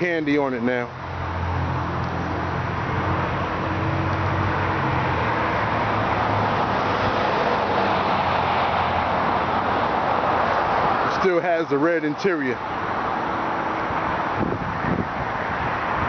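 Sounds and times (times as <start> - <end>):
road noise hiss: 0.0 - 16.0
car engine humming: 0.5 - 16.0.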